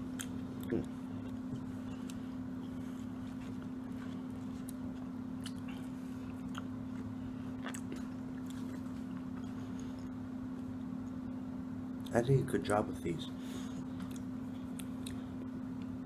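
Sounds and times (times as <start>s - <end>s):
person chewing crunchy food: 0.0s - 11.2s, 13.8s - 16.0s
low electrical hum: 0.0s - 16.0s.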